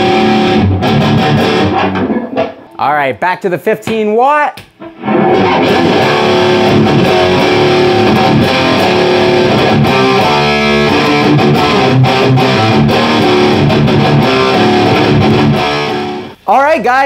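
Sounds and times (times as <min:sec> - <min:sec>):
distorted electric guitar: 0:00.0 - 0:02.9, 0:04.8 - 0:16.5.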